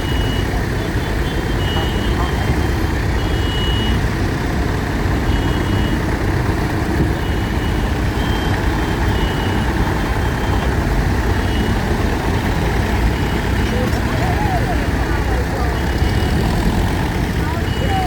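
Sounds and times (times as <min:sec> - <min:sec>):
tractor and lorry engines rumbling: 0:00.0 - 0:18.0.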